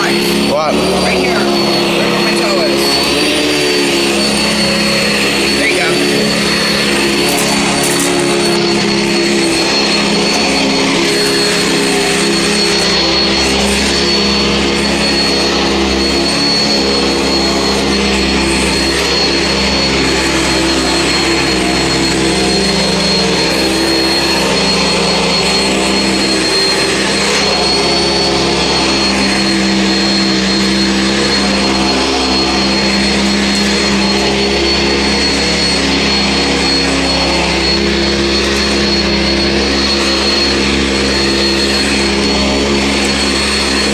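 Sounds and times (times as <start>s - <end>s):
upright vacuum cleaner running: 0.0s - 43.9s.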